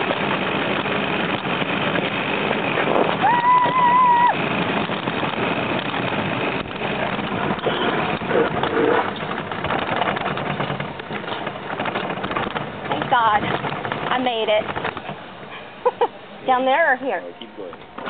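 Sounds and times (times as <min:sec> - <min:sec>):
rushing wind: 0:00.0 - 0:16.6
wheels rumbling on rails: 0:00.0 - 0:18.0.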